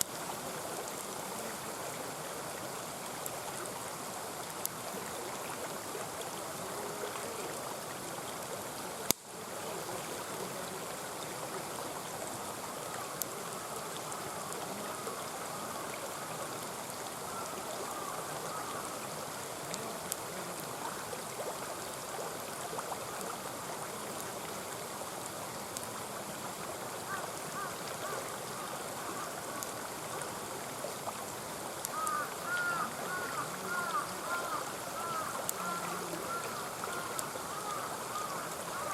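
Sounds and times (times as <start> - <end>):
campfire crackling: 0.0 - 38.9
stream flowing and burbling: 0.0 - 38.9.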